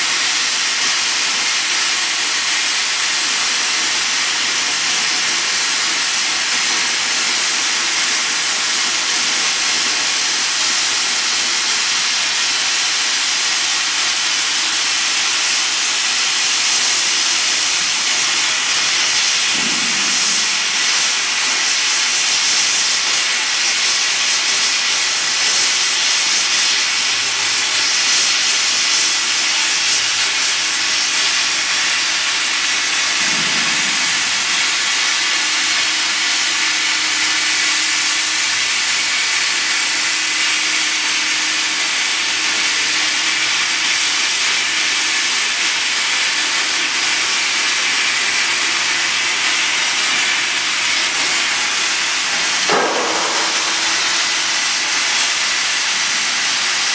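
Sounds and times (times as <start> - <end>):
plasma torch cutting steel hiss: 0.0 - 56.9.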